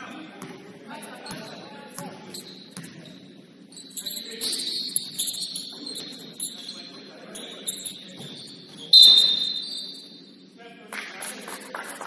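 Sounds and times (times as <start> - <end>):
sneakers squeaking on gym floor: 0.1 - 10.4.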